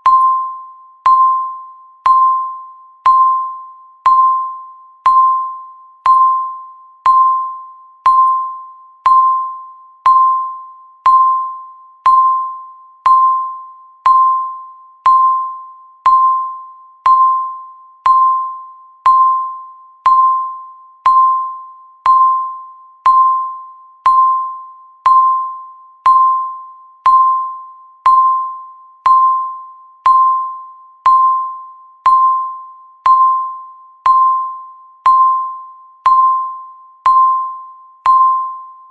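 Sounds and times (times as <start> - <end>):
timer electronic ticks: 0.0 - 38.7.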